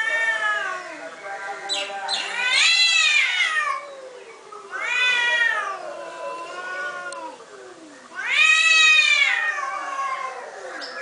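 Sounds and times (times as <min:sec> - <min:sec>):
cats yowling: 0:00.0 - 0:11.0.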